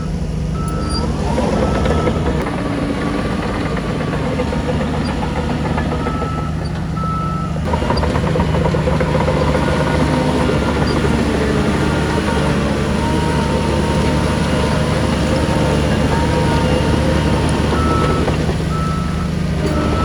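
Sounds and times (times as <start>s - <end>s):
reversing beeps: 0.0s - 2.5s, 4.4s - 8.1s, 9.5s - 20.0s
heavy diesel machinery droning: 0.0s - 20.0s.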